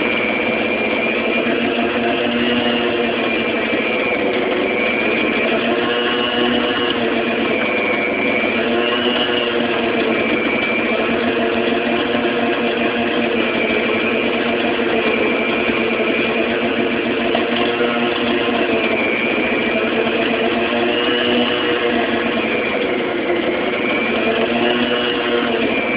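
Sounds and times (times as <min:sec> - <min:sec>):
stand mixer churning dough: 0:00.0 - 0:25.9.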